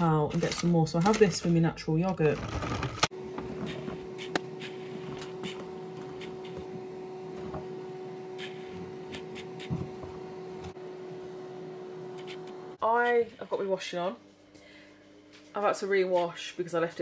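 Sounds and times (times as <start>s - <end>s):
steady hum: 2.8s - 17.0s.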